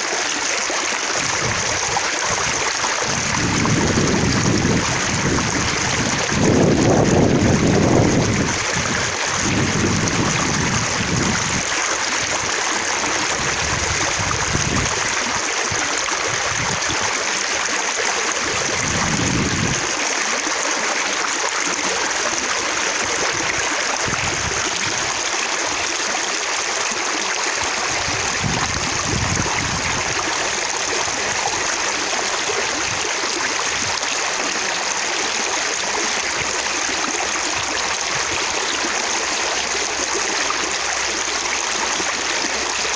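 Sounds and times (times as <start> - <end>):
water running and splashing: 0.0 - 42.9.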